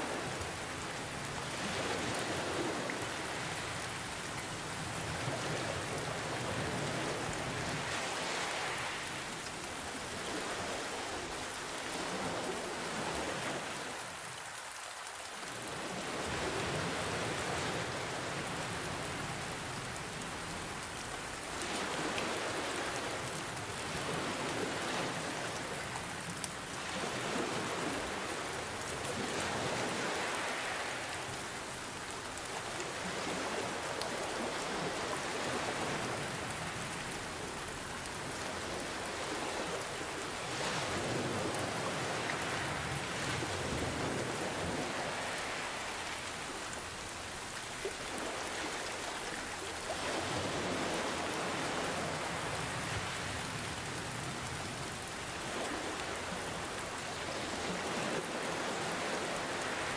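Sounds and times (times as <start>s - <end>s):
ocean waves: 0.0s - 59.9s
rain falling: 0.0s - 59.9s.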